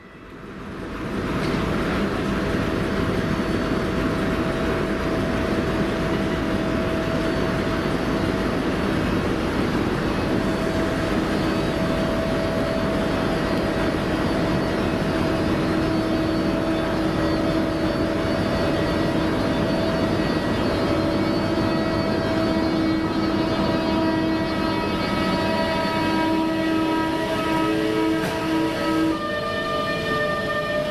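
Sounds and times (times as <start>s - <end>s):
train rumbling: 0.0s - 30.9s
train whine: 0.0s - 30.9s.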